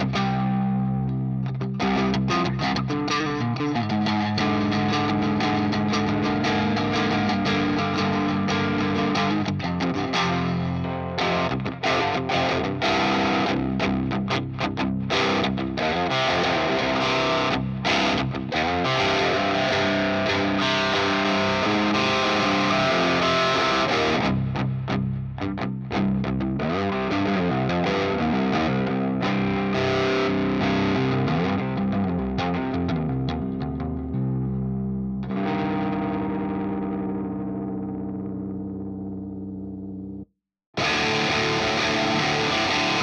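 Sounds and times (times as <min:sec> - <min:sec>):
distorted electric guitar riff: 0:00.0 - 0:43.0.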